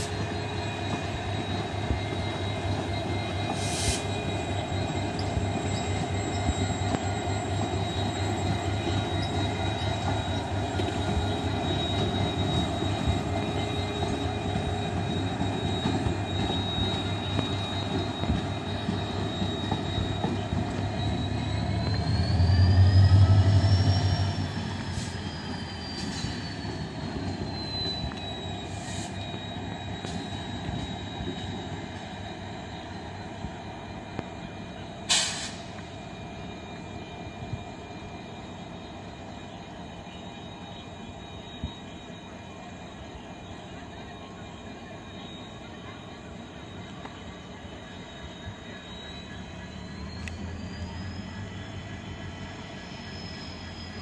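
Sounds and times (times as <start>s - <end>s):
locomotive low rumble: 0.0s - 54.0s
train wheels squealing: 0.0s - 54.0s.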